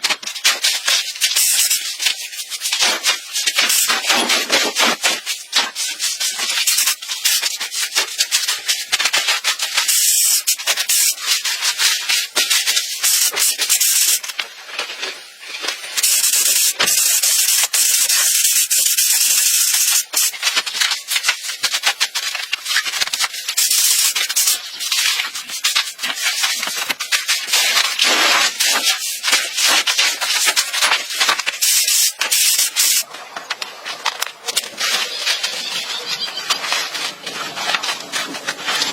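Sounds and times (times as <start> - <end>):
hand sanding a surface: 0.3 - 14.4, 15.9 - 33.1.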